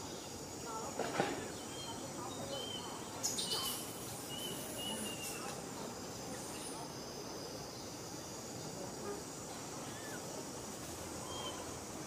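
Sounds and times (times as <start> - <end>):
background hiss: 0.0 - 12.0
faint insect drone: 0.0 - 12.0.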